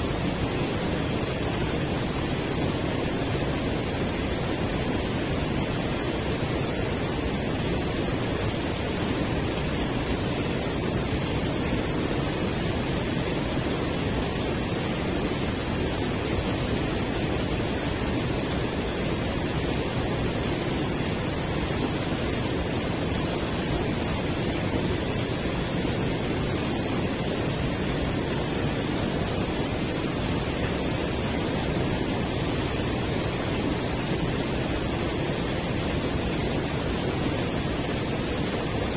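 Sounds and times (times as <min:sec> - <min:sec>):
river water rushing over weir: 0:00.0 - 0:38.9.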